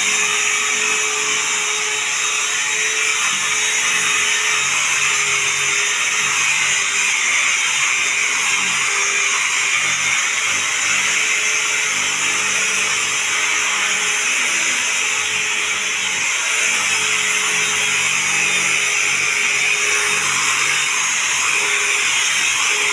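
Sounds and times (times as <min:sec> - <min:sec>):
electric brush motor running: 0:00.0 - 0:22.9.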